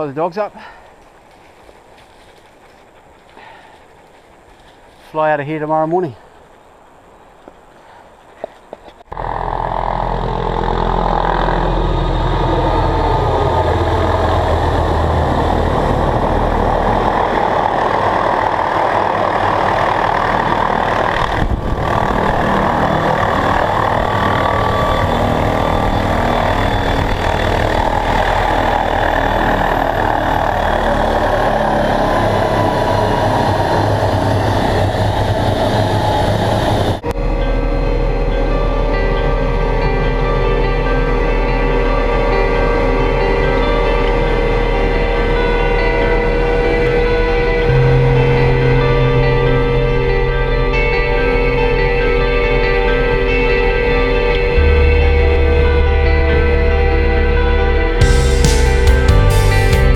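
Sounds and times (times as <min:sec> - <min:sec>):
helicopter engine and rotor: 0:09.1 - 0:58.0.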